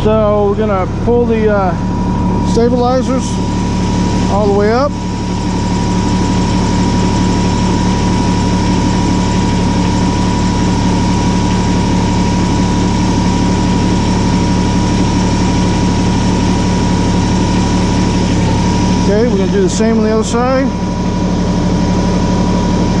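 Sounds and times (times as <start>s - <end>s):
steady whine: 0.0s - 23.0s
tractor diesel engine running: 0.0s - 23.0s.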